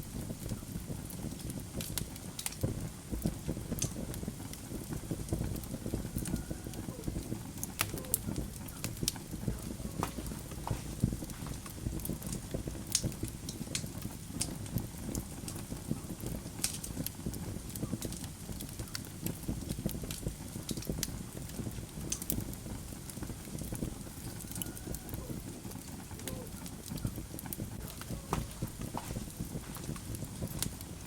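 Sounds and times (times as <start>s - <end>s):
burning wood crackling and popping: 0.0s - 31.0s
low rumble of flames: 0.0s - 31.0s.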